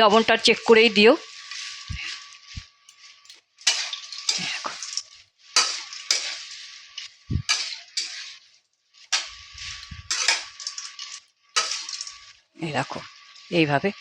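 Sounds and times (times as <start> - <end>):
spatula scraping and stirring: 0.0 - 14.0.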